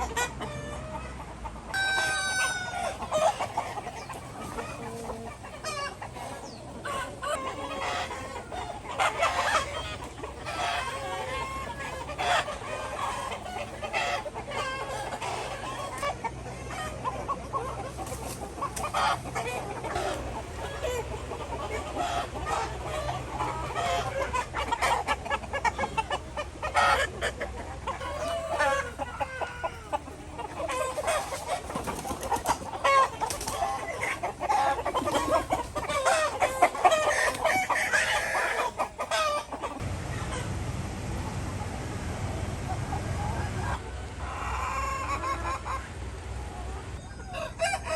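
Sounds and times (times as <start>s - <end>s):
chickens clucking and squawking: 0.0s - 47.9s.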